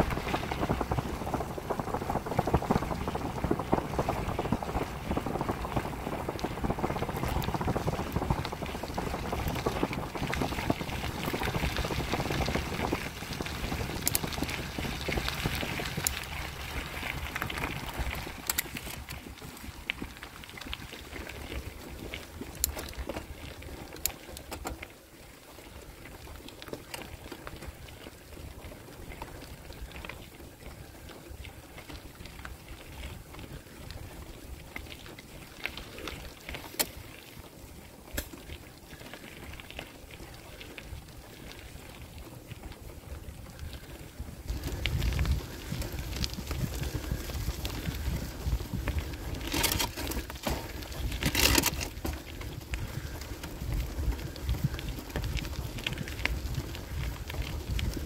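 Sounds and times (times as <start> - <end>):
bicycle tyres rolling on wet gravel: 0.0 - 58.0
sharp clicks from bike: 2.3 - 25.0, 25.6 - 30.2, 34.8 - 37.4, 38.0 - 58.0.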